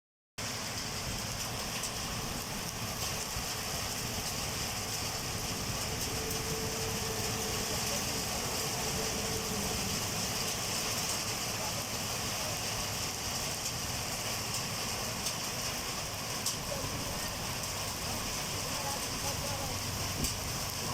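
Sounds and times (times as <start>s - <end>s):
heavy rain pouring: 0.4s - 20.9s.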